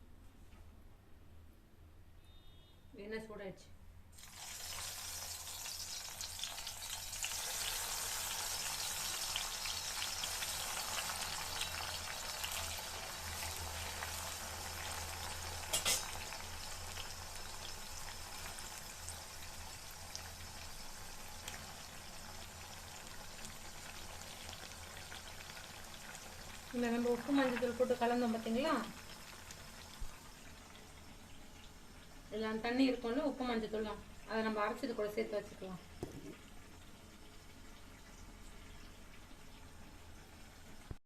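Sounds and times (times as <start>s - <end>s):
vegetables frying in oil: 4.1s - 41.0s.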